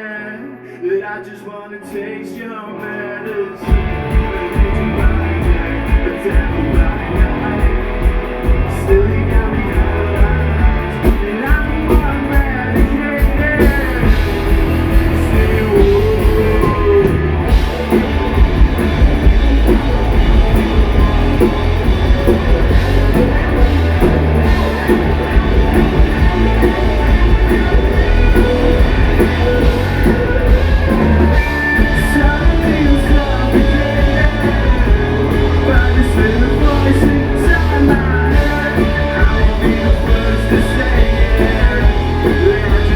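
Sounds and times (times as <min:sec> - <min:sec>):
live rock band playing: 0:01.8 - 0:42.9.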